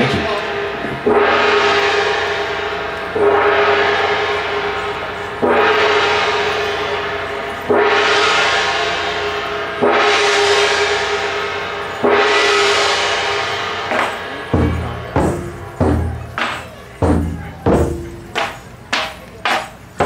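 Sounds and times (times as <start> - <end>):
large gong struck: 0.0 - 18.6.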